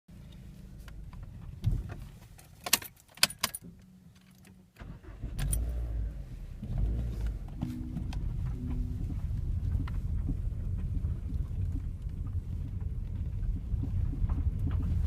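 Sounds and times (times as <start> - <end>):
car engine low rumble: 0.1 - 2.7, 3.6 - 15.0.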